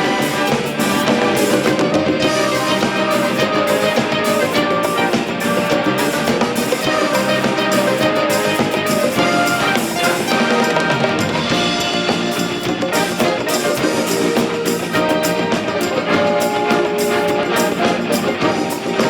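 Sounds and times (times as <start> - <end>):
band playing instrumental music: 0.0 - 19.0
drum kit steady beat: 0.0 - 19.0.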